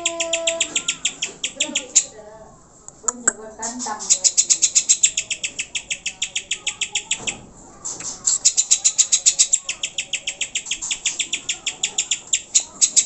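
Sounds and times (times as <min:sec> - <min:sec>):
bird call rattle of chirps: 0:00.0 - 0:02.2, 0:03.6 - 0:13.0.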